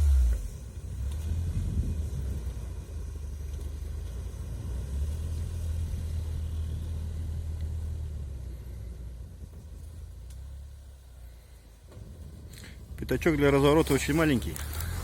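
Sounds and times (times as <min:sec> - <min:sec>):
vehicle engine running under load: 0:00.0 - 0:15.0.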